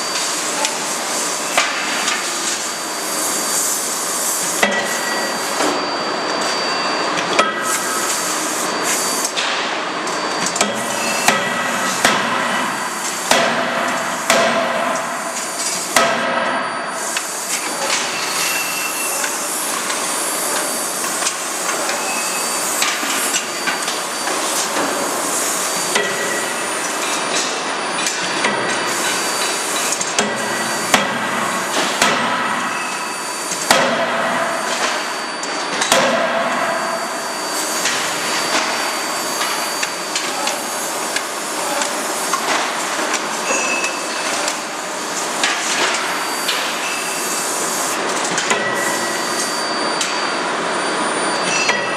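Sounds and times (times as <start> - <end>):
forge shop noise: 0.0 - 51.9.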